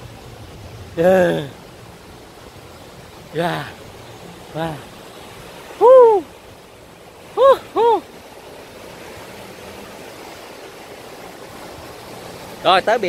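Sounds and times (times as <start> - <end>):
sea surf hiss: 0.0 - 13.0.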